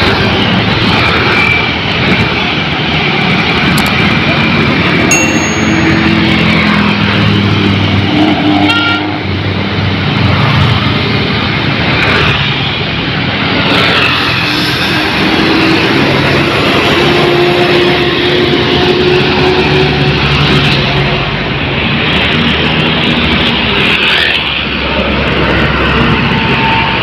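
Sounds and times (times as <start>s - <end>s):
road traffic passing: 0.0s - 27.0s.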